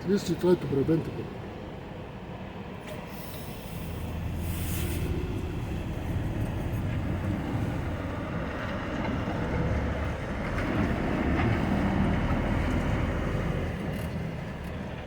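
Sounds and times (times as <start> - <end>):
heavy vehicle engine rumble: 0.0 - 15.0.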